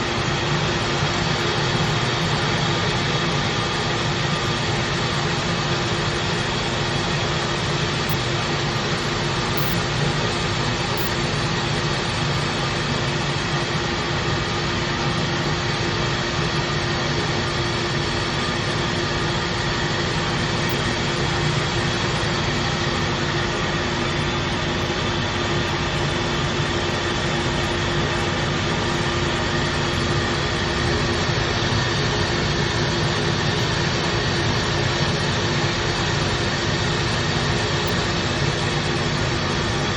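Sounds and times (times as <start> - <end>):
rice mill machine whirring: 0.0 - 39.9.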